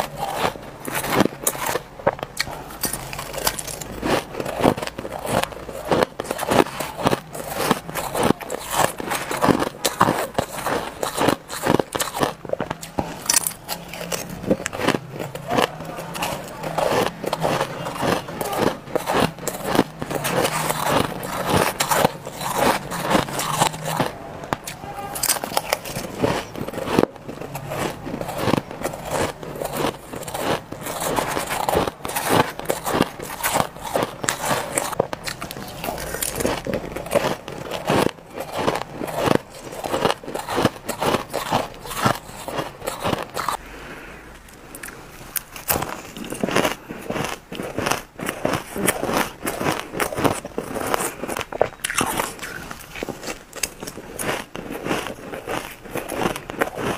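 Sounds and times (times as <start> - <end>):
ice being chewed: 0.0 - 43.6, 44.4 - 56.9.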